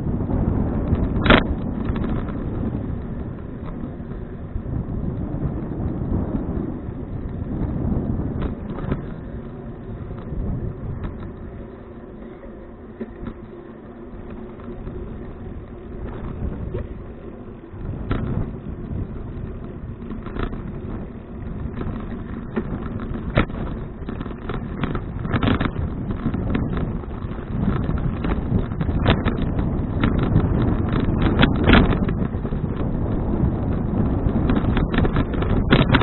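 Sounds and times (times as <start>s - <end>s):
bicycle rolling on road: 0.0s - 36.0s
bike knocks and rattles: 0.0s - 36.0s
wind buffeting microphone: 0.0s - 36.0s.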